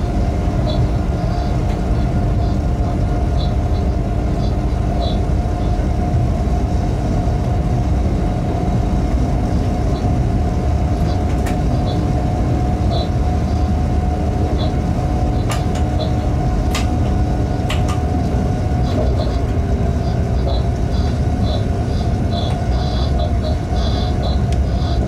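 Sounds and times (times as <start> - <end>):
freight train rumble: 0.0 - 25.0
steady hum: 0.0 - 25.0.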